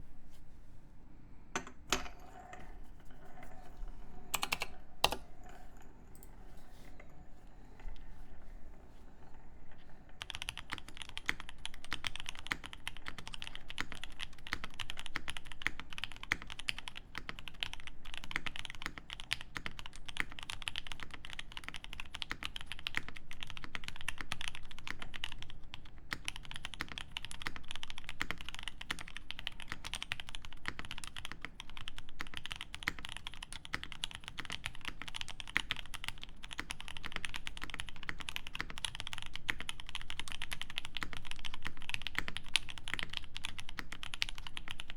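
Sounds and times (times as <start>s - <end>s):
mechanical keyboard typing: 1.6s - 44.9s.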